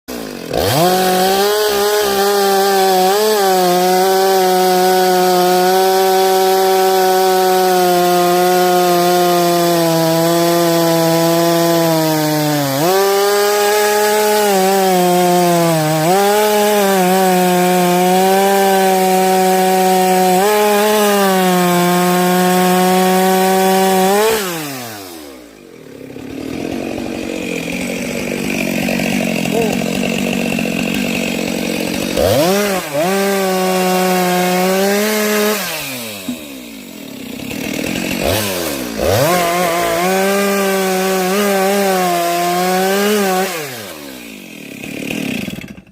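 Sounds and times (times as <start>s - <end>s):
chainsaw cutting through log: 0.0s - 45.9s.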